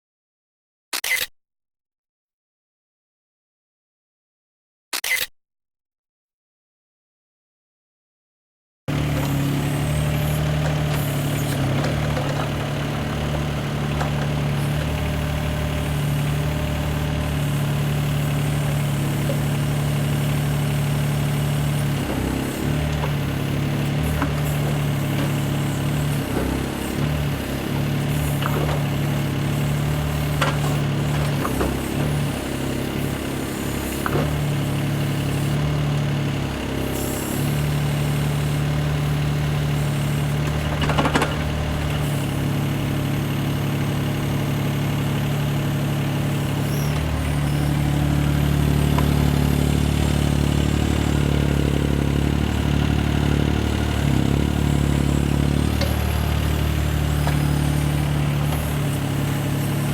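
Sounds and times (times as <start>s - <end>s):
vehicle engine idling: 8.9s - 59.9s.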